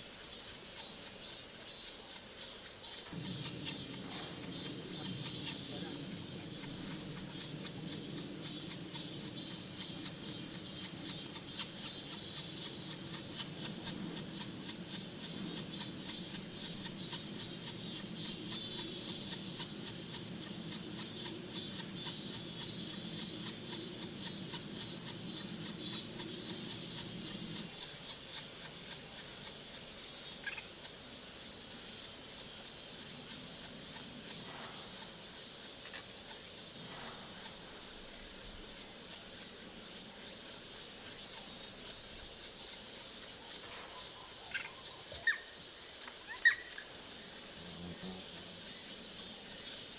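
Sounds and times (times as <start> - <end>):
steady high hiss: 0.0 - 49.9.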